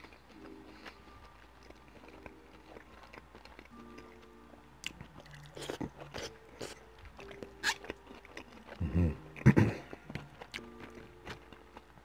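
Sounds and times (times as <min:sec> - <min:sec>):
wet crunchy chewing: 0:00.0 - 0:12.0.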